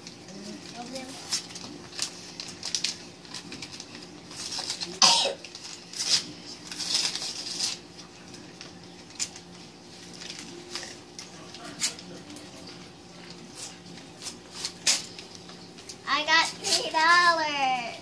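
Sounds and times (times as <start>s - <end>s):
cards rustling: 0.3s - 17.4s
paper envelopes tearing: 0.4s - 17.5s.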